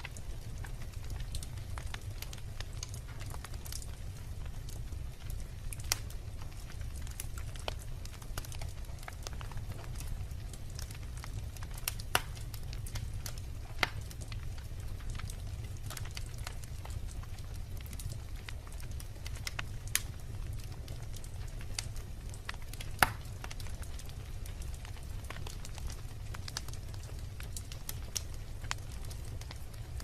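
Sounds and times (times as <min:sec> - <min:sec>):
logs crackling in fireplace: 0:00.0 - 0:30.0
low rumble of flames: 0:00.0 - 0:30.0
sharp fire pops: 0:00.0 - 0:30.0.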